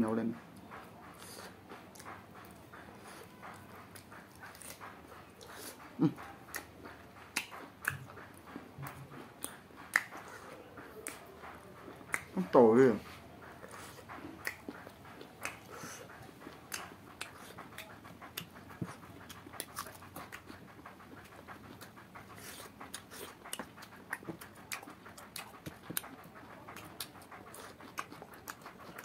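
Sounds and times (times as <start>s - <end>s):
wet chewing and mouth smacks: 0.6s - 29.0s.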